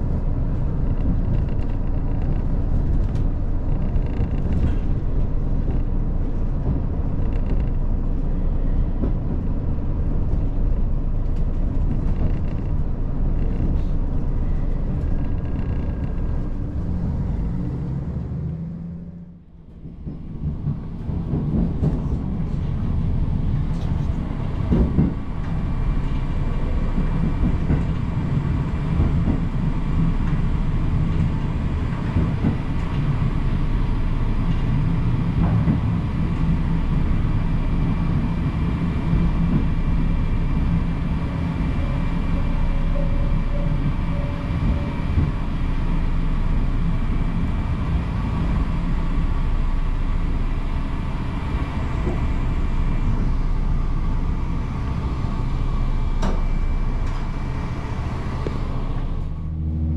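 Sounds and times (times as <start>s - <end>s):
diesel train engine drone: 0.0s - 59.9s
wheel-on-rail rumble: 0.0s - 59.9s.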